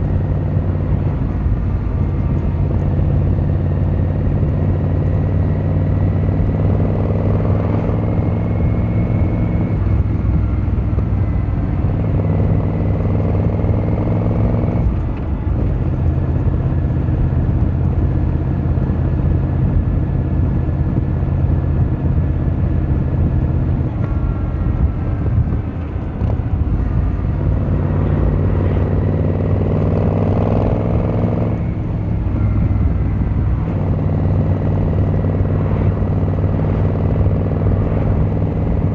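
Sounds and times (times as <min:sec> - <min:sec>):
motorcycle engine revving: 0:00.0 - 0:15.1, 0:15.8 - 0:38.9.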